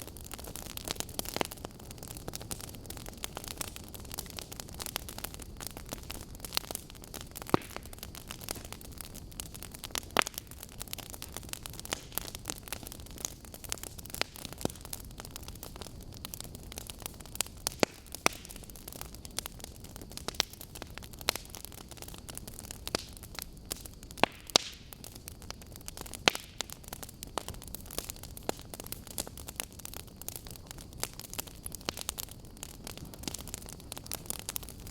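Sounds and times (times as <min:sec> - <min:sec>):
burning logs popping and snapping: 0:00.0 - 0:34.9
fire hissing: 0:00.0 - 0:34.9.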